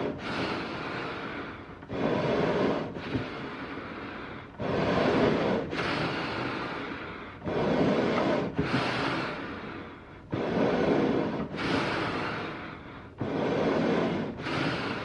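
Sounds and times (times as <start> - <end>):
heavy raspy animal breathing: 0.0 - 15.0.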